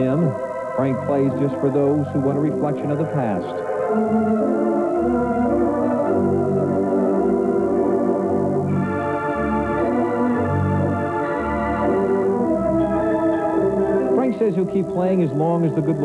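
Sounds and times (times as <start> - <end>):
pipe organ playing chords: 0.0 - 16.0.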